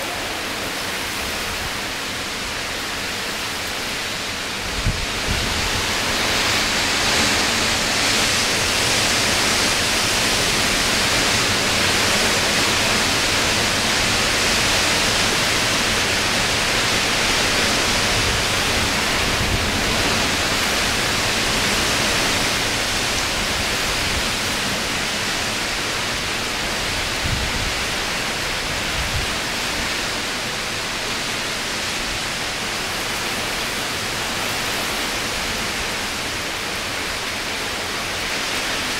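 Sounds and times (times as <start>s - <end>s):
heavy rain pouring: 0.0s - 38.9s
wind gusting on microphone: 0.0s - 38.9s.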